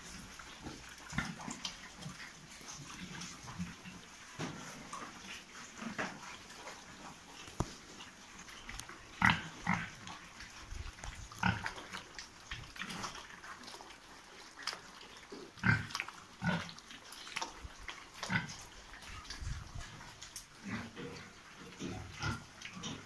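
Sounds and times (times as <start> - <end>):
pigs grunting: 0.0 - 7.3, 9.1 - 23.0.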